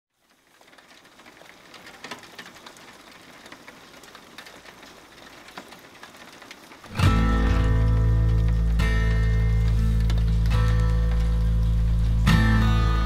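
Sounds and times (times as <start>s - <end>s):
rain falling: 0.1s - 13.0s
raindrop clicks: 0.1s - 13.0s.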